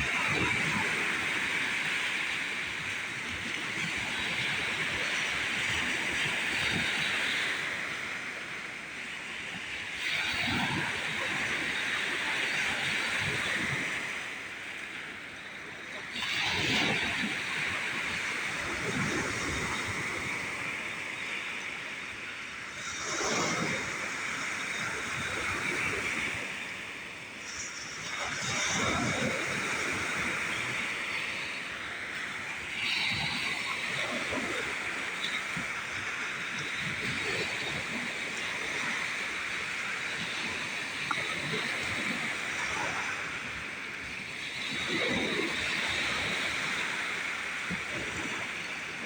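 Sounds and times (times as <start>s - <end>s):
storm waves crashing on shore: 0.0s - 49.0s
wind and surf rushing: 0.0s - 49.0s.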